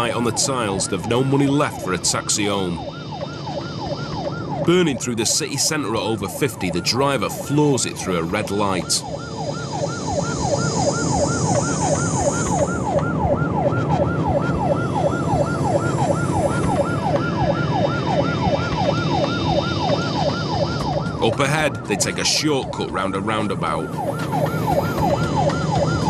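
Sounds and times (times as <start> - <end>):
police siren yelping: 0.0 - 26.0
road noise: 0.0 - 26.0.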